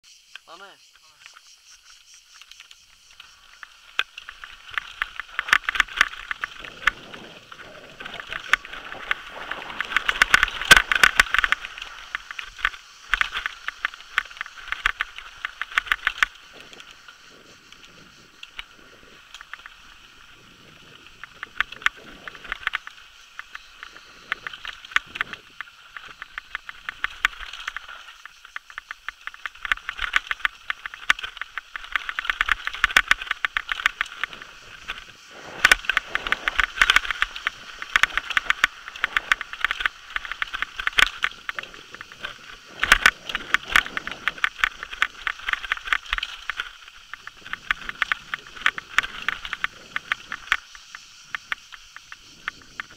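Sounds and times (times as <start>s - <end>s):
mountain bike rattling over rocks: 1.4s - 52.9s.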